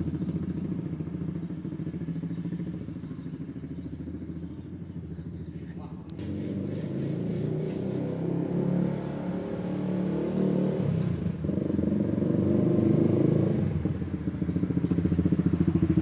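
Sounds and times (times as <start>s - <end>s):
motorcycle exhaust: 0.0s - 16.0s.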